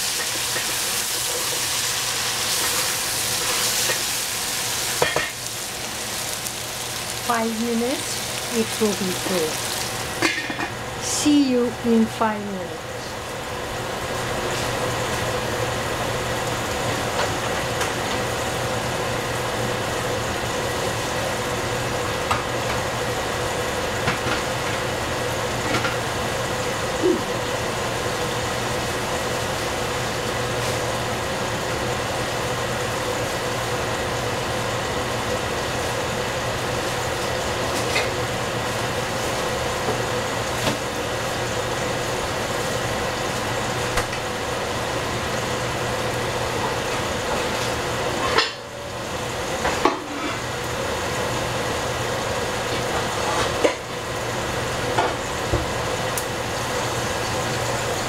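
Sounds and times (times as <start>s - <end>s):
vegetables cooking in a pot: 0.0s - 58.0s.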